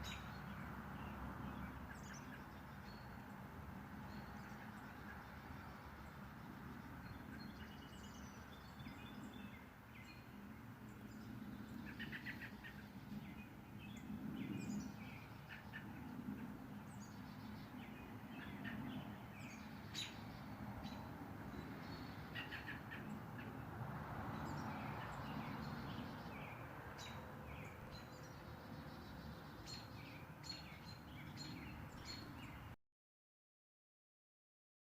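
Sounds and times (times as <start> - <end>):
small birds chirping: 0.0 - 3.2, 4.0 - 23.7, 24.3 - 32.8.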